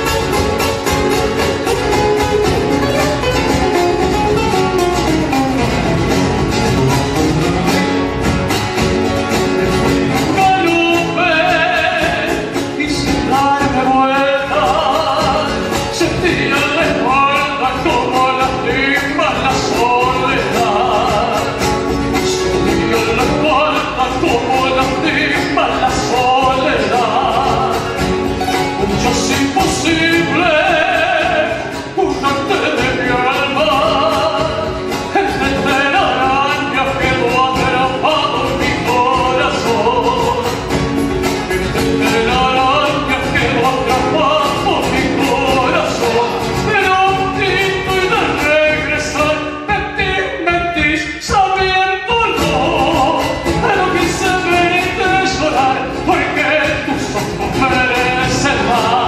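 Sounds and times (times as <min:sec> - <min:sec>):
guitar accompaniment: 0:00.0 - 0:59.0
person singing with vibrato: 0:09.4 - 0:59.0.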